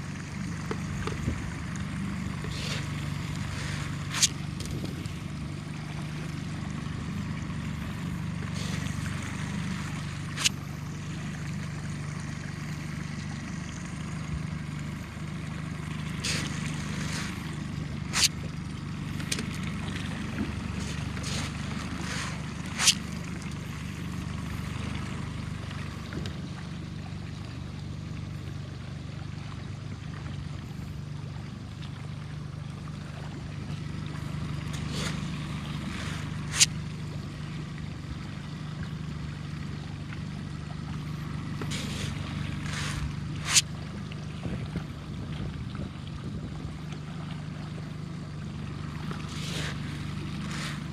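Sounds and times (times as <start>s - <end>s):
boat motor humming: 0.0s - 50.9s
water gurgling around hull: 0.0s - 50.9s.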